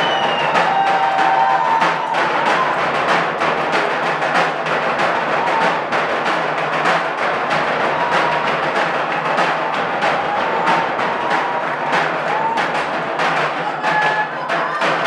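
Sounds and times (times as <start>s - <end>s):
drum ensemble playing fast rhythm: 0.0s - 15.0s.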